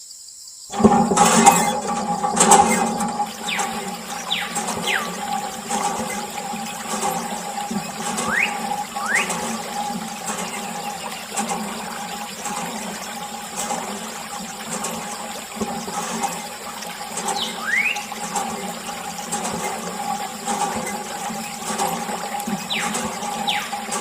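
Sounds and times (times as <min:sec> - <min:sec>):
pump motor hum: 0:00.7 - 0:24.0
water splashing from pump: 0:00.7 - 0:24.0.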